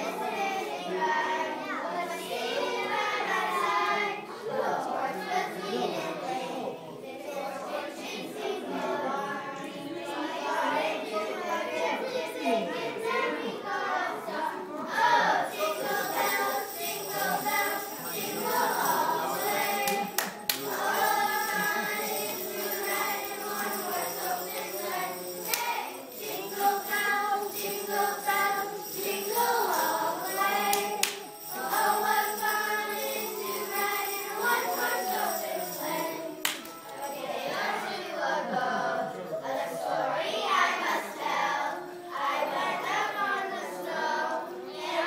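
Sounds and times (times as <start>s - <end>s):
girls singing a carol: 0.0s - 45.0s.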